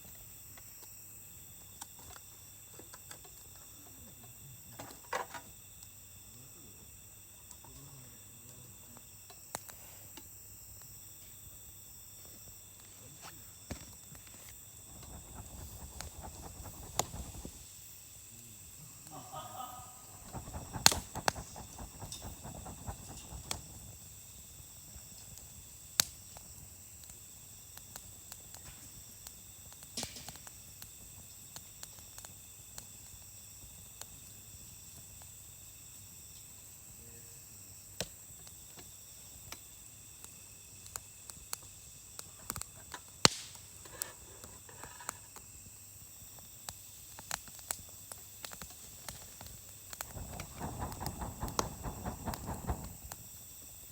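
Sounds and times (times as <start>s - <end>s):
campfire crackling: 6.8s - 53.9s.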